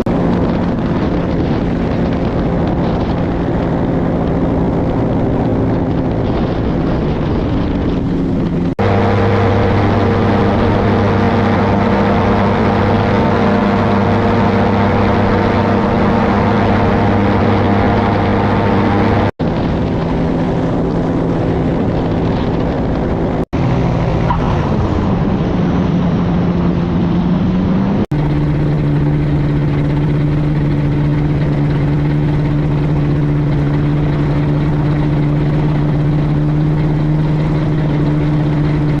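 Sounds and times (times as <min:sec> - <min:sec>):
ultralight aircraft engine and propeller: 0:00.0 - 0:39.0
wind rush: 0:00.0 - 0:39.0.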